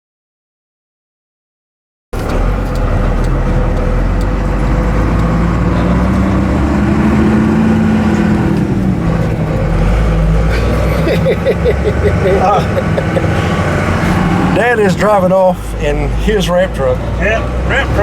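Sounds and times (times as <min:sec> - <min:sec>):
truck engine rumbling: 0:02.2 - 0:18.0.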